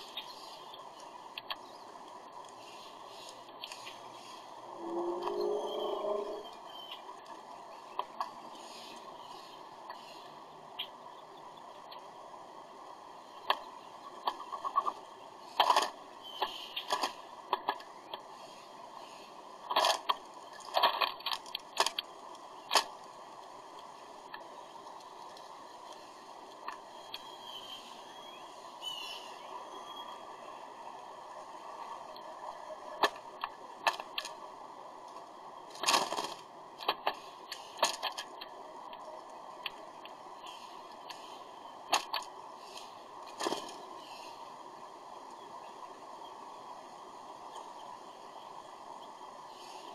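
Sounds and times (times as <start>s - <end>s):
steady hiss: 0.0s - 49.9s.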